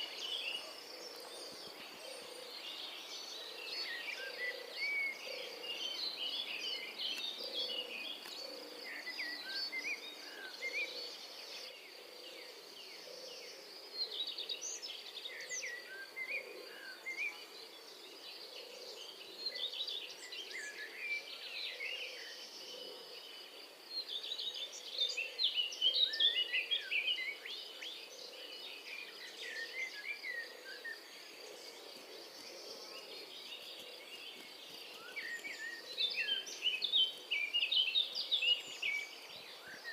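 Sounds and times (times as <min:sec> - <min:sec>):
birds chirping and calling: 0:00.0 - 0:23.3, 0:24.1 - 0:39.9.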